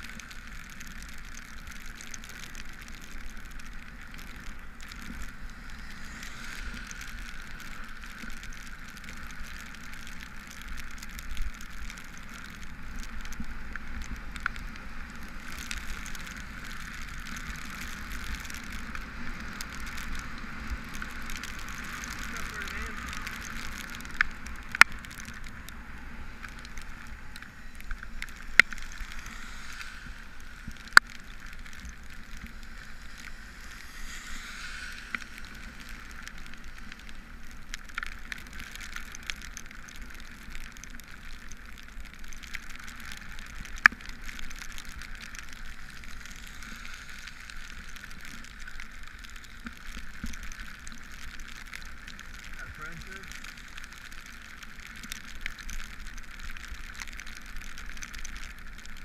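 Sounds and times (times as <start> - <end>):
tyres hissing on wet road: 0.0 - 59.0.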